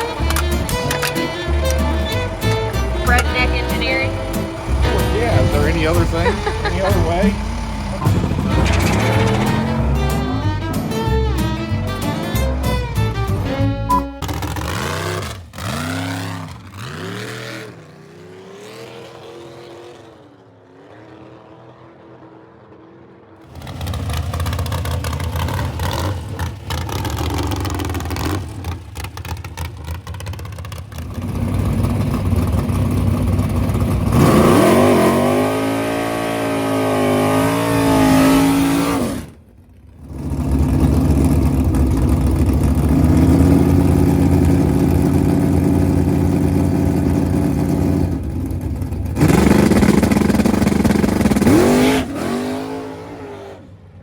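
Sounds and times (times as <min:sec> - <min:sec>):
drag race car engines: 0:00.0 - 0:54.0.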